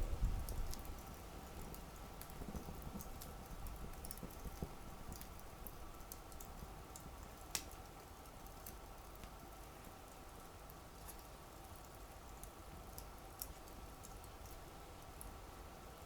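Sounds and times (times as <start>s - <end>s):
fire popping: 0.0s - 15.3s
campfire crackling: 0.0s - 16.0s.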